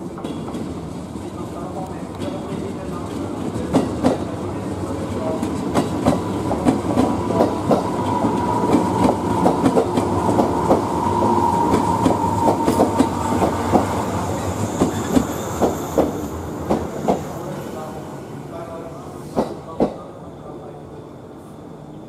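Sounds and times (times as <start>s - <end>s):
train rumble: 0.0s - 20.2s.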